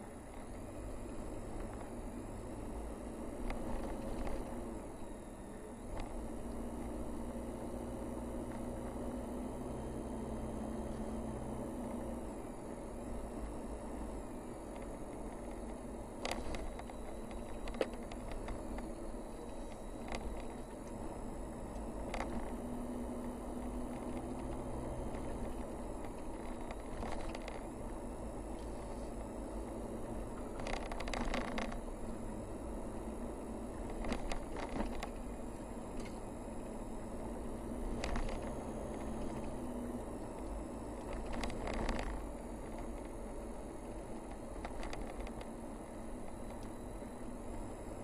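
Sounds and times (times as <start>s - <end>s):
car engine and tyre hum: 0.0s - 48.0s.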